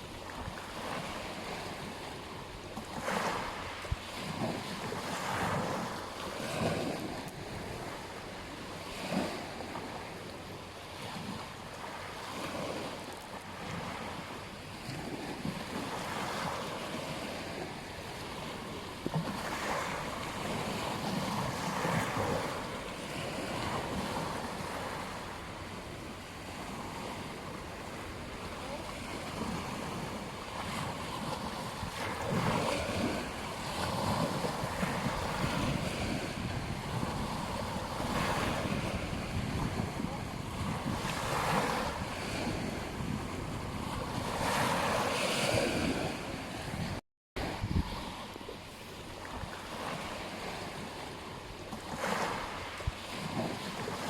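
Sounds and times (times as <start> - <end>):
ocean waves breaking: 0.0 - 54.0
wind on microphone: 0.0 - 54.0.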